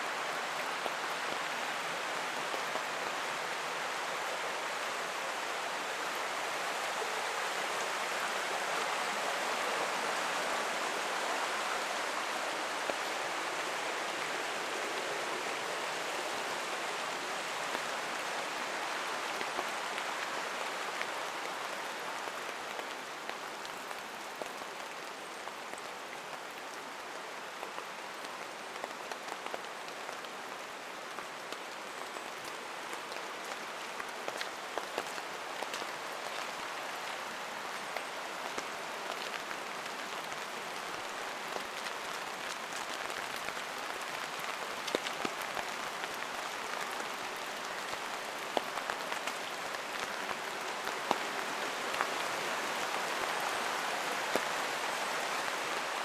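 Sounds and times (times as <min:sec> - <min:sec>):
rain falling through forest: 0:00.0 - 0:56.0.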